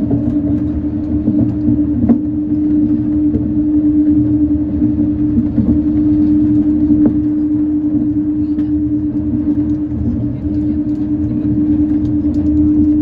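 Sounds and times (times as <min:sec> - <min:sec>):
low rumble: 0:00.0 - 0:13.0
monorail motor hum: 0:00.0 - 0:13.0.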